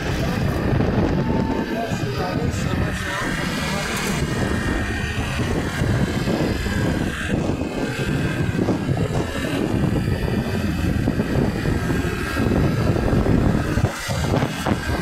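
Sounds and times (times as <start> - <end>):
scooter engine running: 0.0 - 15.0
wind buffeting microphone: 0.0 - 15.0.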